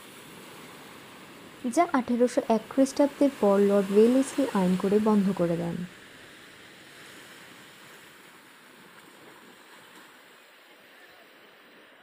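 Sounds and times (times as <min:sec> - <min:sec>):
faint sea surf on beach: 0:00.0 - 0:12.0.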